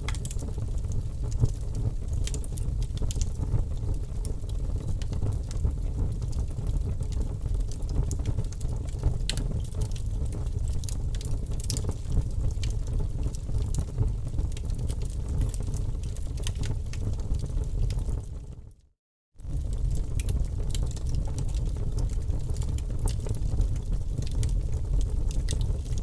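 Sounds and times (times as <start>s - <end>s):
wood fire crackling: 0.0s - 18.6s, 19.4s - 26.0s.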